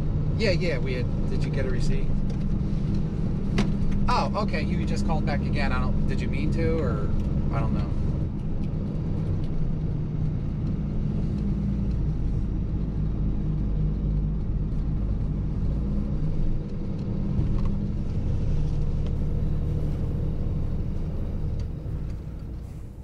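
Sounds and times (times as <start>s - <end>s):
truck diesel engine rumble: 0.0s - 23.0s.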